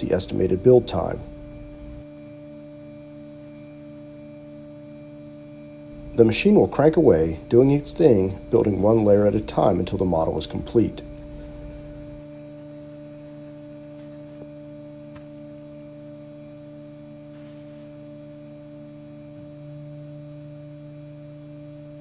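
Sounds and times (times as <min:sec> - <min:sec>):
low hum of held tones: 0:00.0 - 0:22.0.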